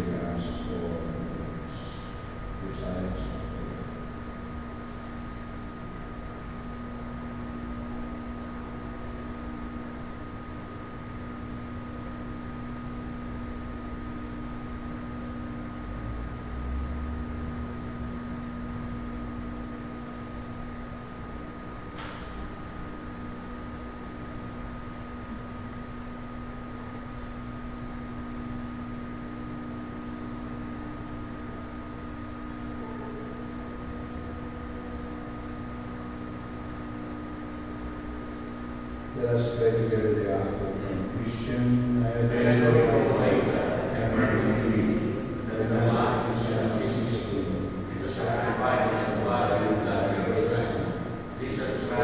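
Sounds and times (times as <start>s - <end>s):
room hum and hiss: 0.0s - 52.0s.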